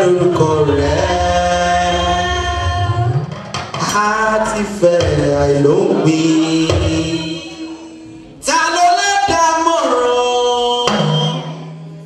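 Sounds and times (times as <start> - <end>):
voices singing church song: 0.0 - 11.5
low musical backing: 0.0 - 12.0.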